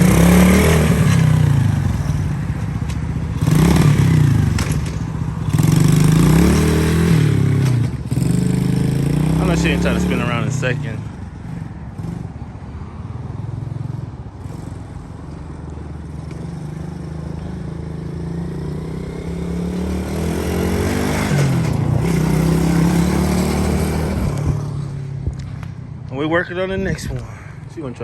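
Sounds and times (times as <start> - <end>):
atv engine revving: 0.0 - 25.8.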